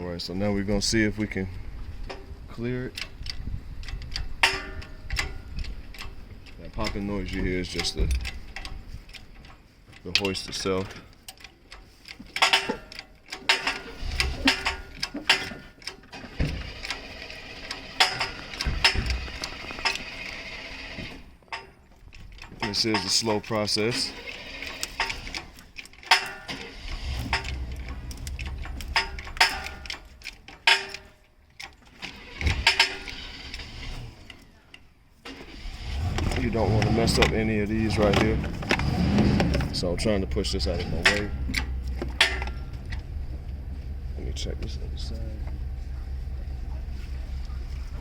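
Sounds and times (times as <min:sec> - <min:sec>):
metallic clicks and knocks: 0:02.9 - 0:35.5, 0:36.1 - 0:43.6
engine hoist popping and clicking: 0:02.9 - 0:48.0.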